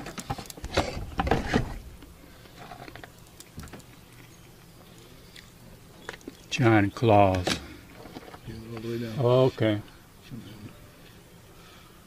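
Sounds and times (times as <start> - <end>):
crawfish shells crackling: 0.0 - 10.1.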